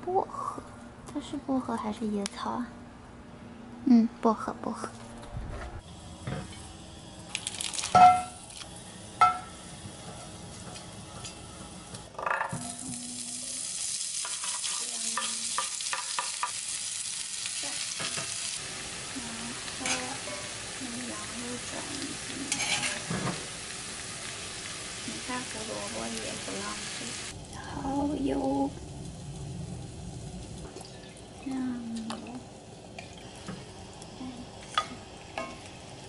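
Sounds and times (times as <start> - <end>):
food sizzling in hot oil: 5.8 - 36.0.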